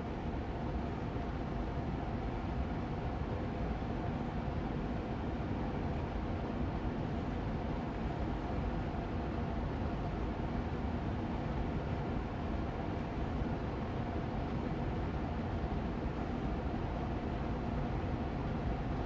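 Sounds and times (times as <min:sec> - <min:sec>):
air purifier fan running: 0:00.0 - 0:19.0.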